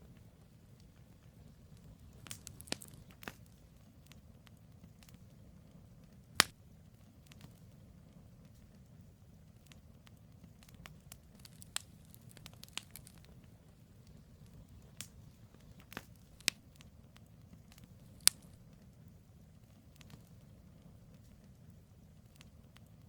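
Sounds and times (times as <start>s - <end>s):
campfire crackling and popping: 0.0s - 23.0s
rumble of flame: 0.0s - 23.0s.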